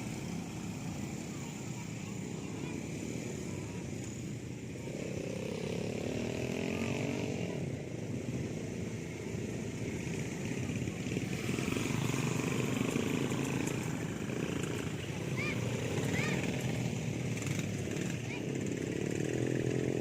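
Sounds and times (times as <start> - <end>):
small off-road vehicle engine: 0.0 - 20.0.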